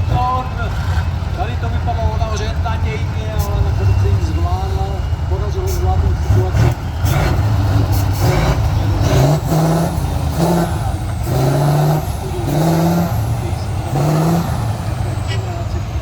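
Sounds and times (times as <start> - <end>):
low engine drone: 0.0 - 16.0
truck engine revving in bursts: 0.0 - 16.0.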